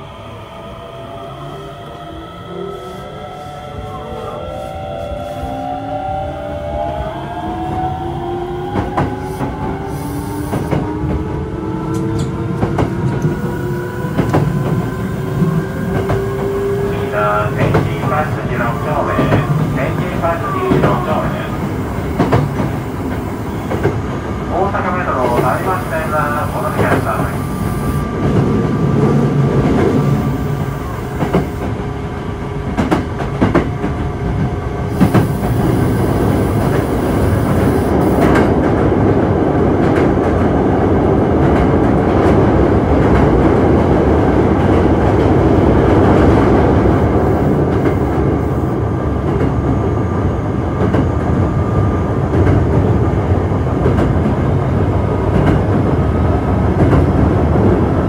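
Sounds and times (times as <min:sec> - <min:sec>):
train rolling rumble: 0:02.2 - 0:58.0.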